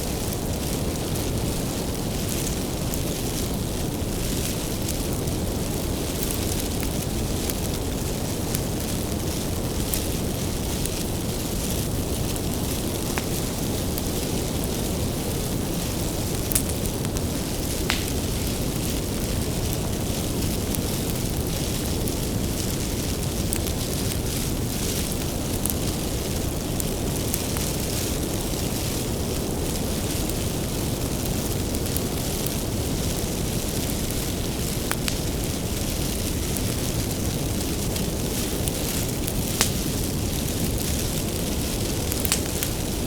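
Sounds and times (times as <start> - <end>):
firewood crackling and popping: 0.0 - 43.0
rumble of flames: 0.0 - 43.0.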